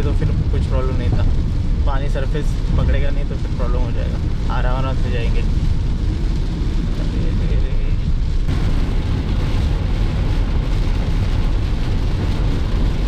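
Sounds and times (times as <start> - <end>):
car road rumble: 0.0 - 13.0
rain and tyres on wet road: 0.0 - 13.0.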